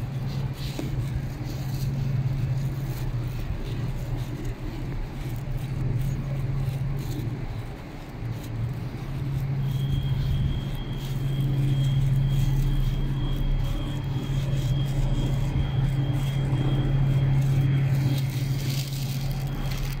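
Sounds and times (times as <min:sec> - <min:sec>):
low mechanical hum: 0:00.0 - 0:20.0
thin high whine: 0:00.0 - 0:20.0.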